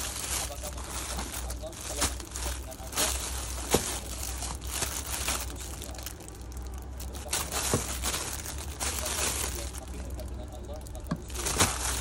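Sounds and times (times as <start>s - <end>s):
low steady hum: 0.0s - 12.0s
plastic wrap crinkling: 0.0s - 12.0s.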